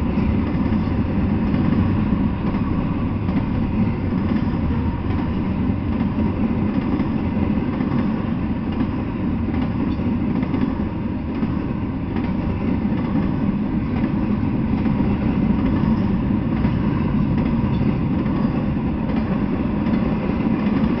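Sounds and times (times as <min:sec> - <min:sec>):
freight train passing rumble: 0:00.0 - 0:21.0.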